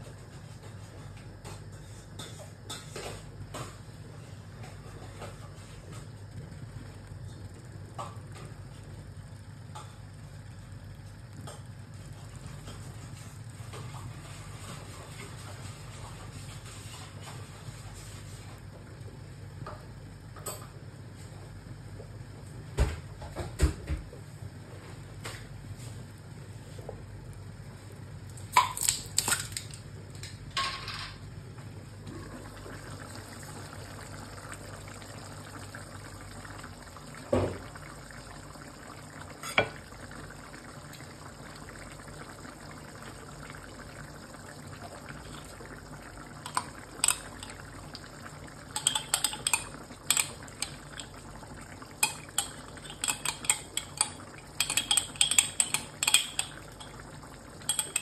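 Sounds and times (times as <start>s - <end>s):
stew simmering in a wok: 0.0s - 28.7s, 31.2s - 58.0s.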